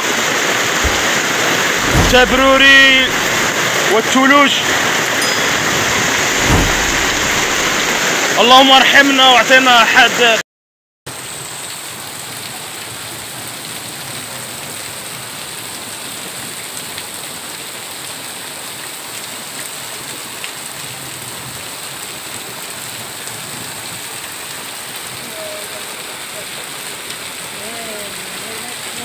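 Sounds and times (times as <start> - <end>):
heavy rain on wet pavement: 0.0 - 10.4, 11.1 - 29.0.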